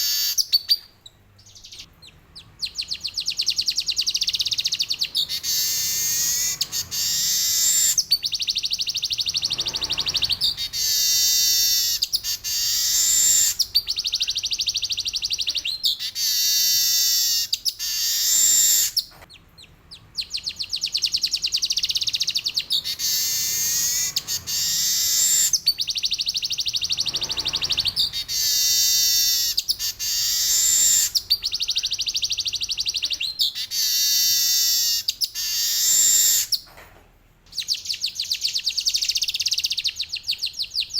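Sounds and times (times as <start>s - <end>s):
weaver bird singing: 0.0s - 36.7s, 37.5s - 40.9s.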